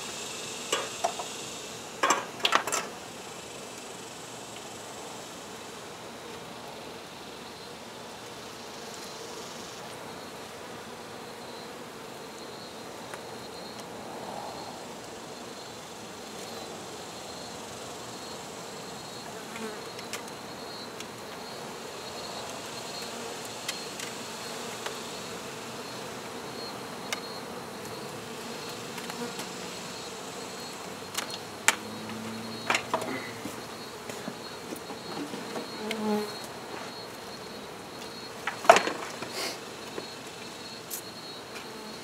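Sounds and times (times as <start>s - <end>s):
honey bees buzzing: 0.0s - 42.0s.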